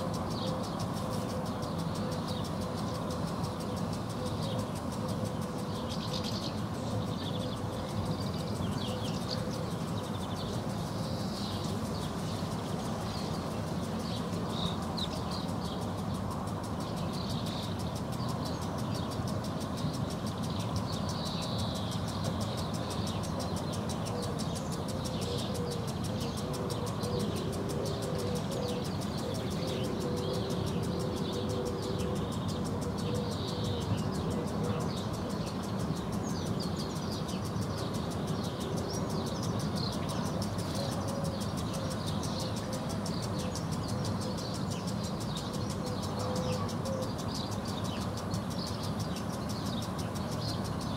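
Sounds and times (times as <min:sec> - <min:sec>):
distant traffic hum: 0:00.0 - 0:50.9
faint steady drone: 0:00.0 - 0:50.9
small birds twittering: 0:00.0 - 0:50.9.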